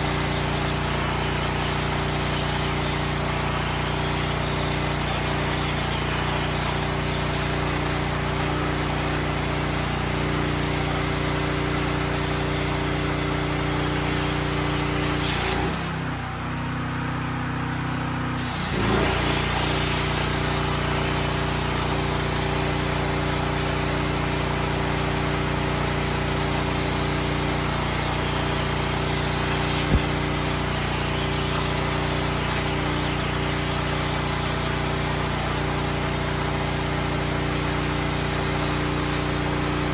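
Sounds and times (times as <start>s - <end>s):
plasma arc hissing: 0.0s - 39.9s.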